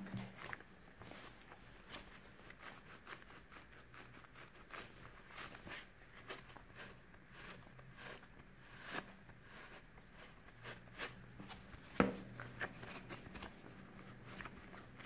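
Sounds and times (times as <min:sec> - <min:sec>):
soapy sponge squelching: 0:00.0 - 0:15.0.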